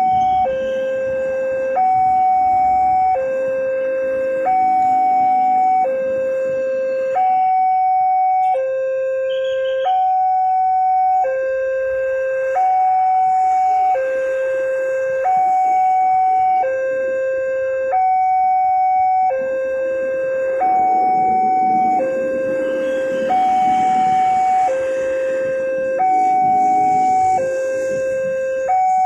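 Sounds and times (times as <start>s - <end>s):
two-tone crossing alarm: 0.0s - 29.0s.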